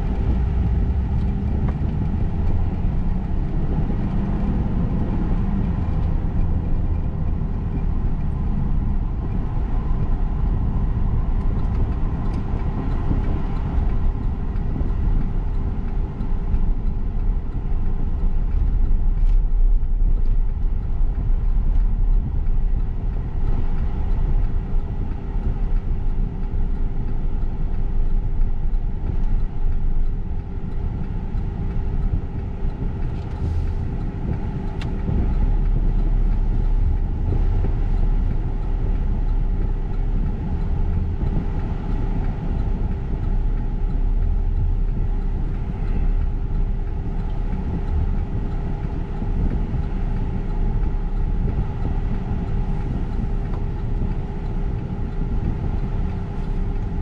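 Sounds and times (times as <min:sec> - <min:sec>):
constant tone: 0:00.0 - 0:57.0
freight train rumbling: 0:00.0 - 0:57.0.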